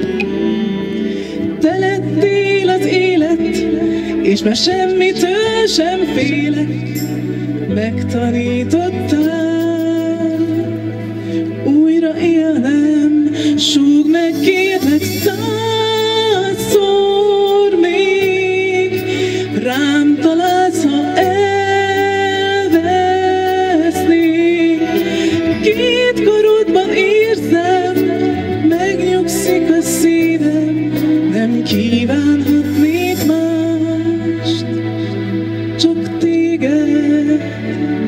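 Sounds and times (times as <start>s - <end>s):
backing music: 0.0s - 38.0s
woman singing into microphone: 0.0s - 38.0s.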